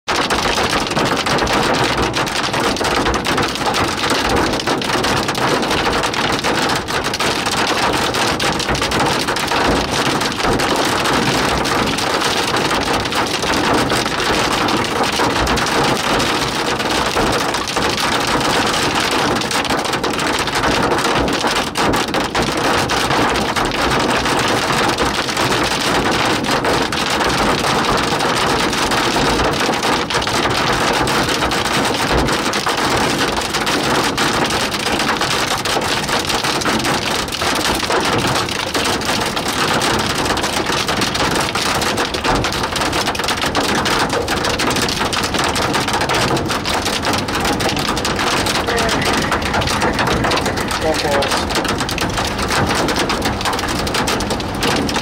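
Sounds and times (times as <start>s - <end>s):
rain and hail on car roof: 0.1s - 55.0s.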